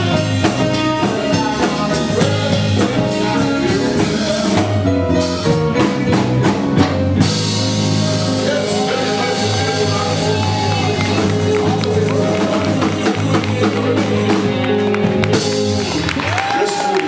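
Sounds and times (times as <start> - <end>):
person singing: 0.0 - 6.2, 7.2 - 17.0
live rock band playing: 0.0 - 17.0.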